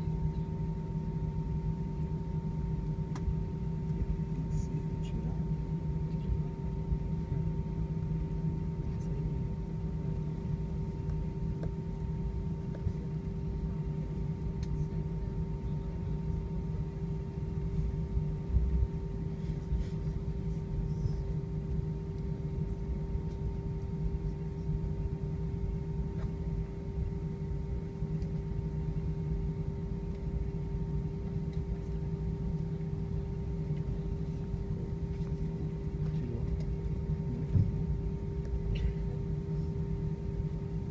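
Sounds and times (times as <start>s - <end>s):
aircraft engines and wheels rumbling: 0.0s - 40.9s
steady hum-like tone: 0.0s - 40.9s.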